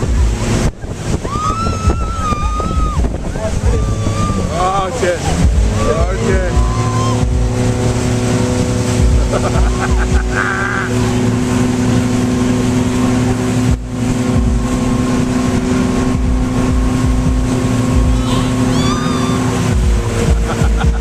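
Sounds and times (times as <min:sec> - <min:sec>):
motorboat engine running: 0:00.0 - 0:21.0
rush of boat wake: 0:00.0 - 0:21.0
wind buffeting microphone: 0:00.0 - 0:21.0.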